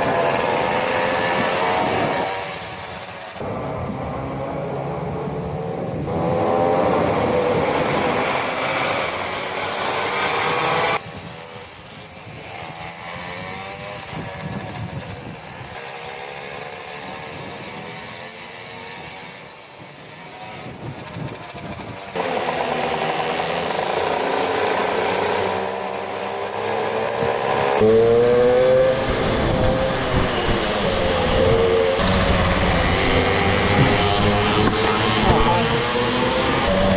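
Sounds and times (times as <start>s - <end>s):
mini motorbike engines revving: 0.0s - 36.9s.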